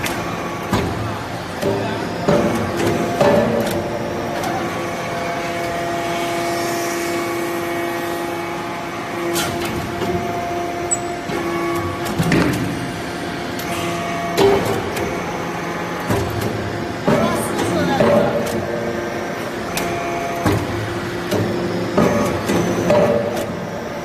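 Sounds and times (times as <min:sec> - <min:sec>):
hydraulic unit humming: 0:00.0 - 0:24.0.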